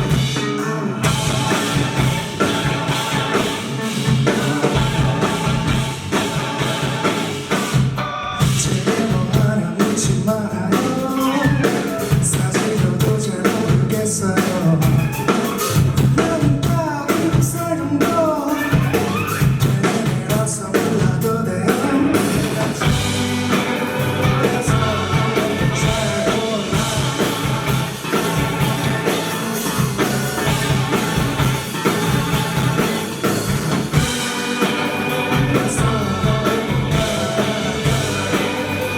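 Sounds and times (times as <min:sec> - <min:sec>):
drums: 0:00.0 - 0:38.9
guitar: 0:00.0 - 0:38.9
lead vocal singing: 0:00.0 - 0:38.9.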